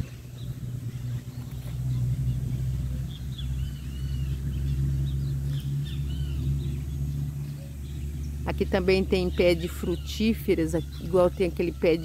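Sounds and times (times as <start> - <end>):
birds chirping: 0.0 - 12.0
steady low rumble: 0.0 - 12.0.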